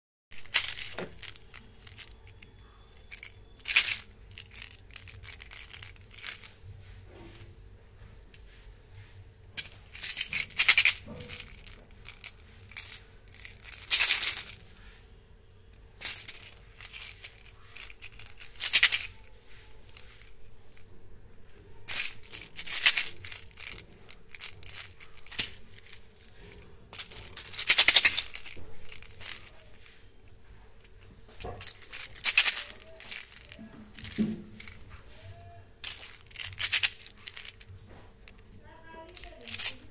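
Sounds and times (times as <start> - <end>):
candy rattling in plastic tubes: 0.4 - 6.6, 9.5 - 15.0, 15.6 - 20.9, 21.8 - 30.0, 30.8 - 39.9.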